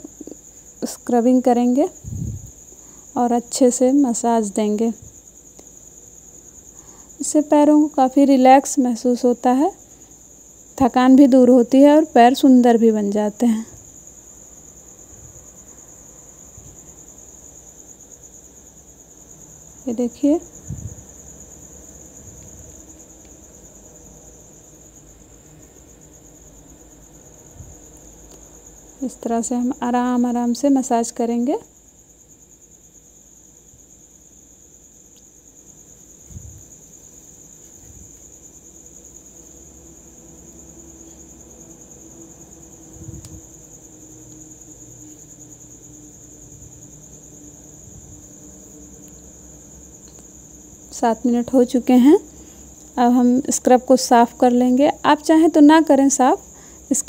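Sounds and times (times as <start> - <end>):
cricket trilling: 0.0 - 57.0.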